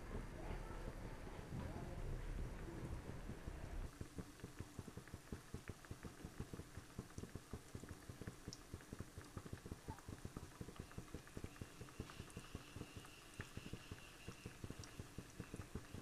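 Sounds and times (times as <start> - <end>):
dough bubbling in hot fat: 0.0 - 16.0.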